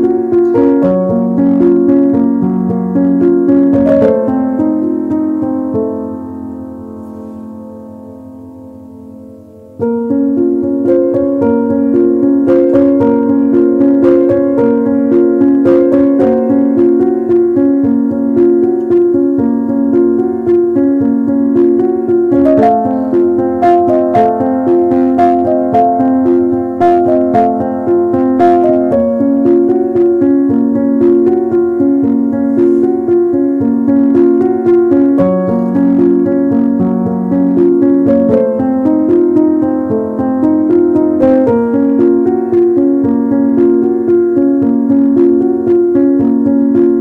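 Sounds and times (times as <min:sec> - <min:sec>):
instrumental piano music: 0:00.0 - 0:47.0.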